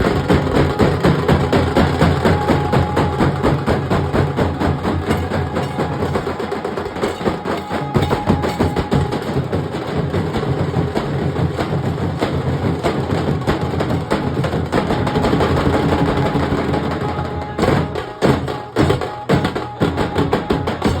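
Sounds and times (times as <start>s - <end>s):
barrel drums drumming: 0.0s - 21.0s.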